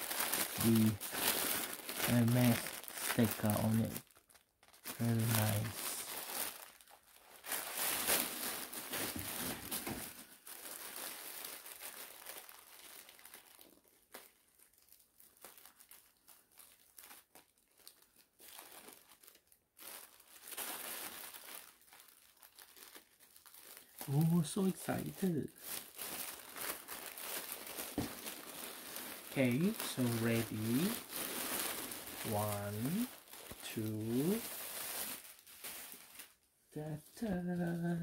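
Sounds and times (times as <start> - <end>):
tissue paper crinkling: 0.0 - 38.0.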